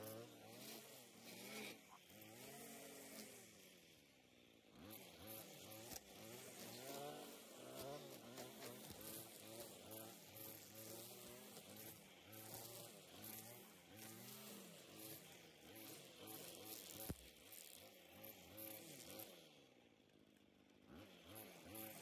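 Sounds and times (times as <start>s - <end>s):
string trimmer cutting grass: 0.0s - 22.0s.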